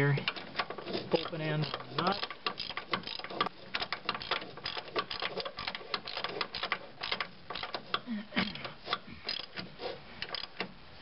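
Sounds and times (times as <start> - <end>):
wrench clicking on metal: 0.0 - 10.8.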